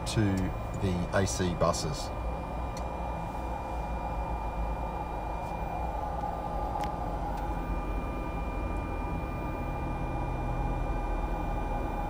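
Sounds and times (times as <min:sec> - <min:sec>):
auxiliary power unit hum and hiss: 0:00.0 - 0:12.0
thin steady whine: 0:00.0 - 0:12.0.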